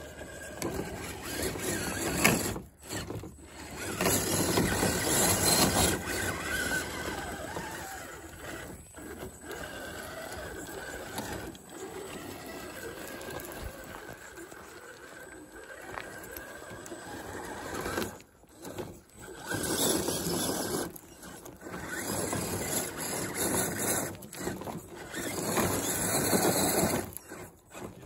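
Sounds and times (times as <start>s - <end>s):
rc car electric motor running: 0.0s - 28.0s.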